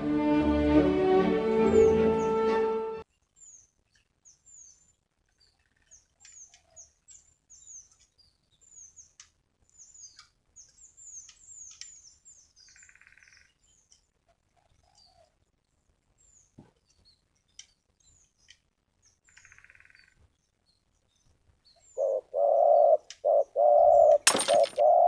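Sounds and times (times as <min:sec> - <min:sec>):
small birds chirping: 0:01.7 - 0:25.0.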